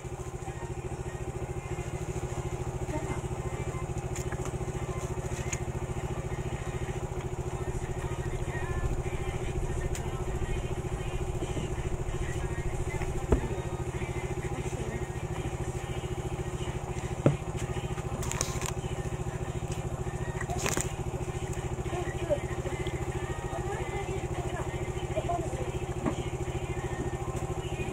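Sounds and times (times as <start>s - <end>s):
pulsing engine drone: 0.0s - 27.9s.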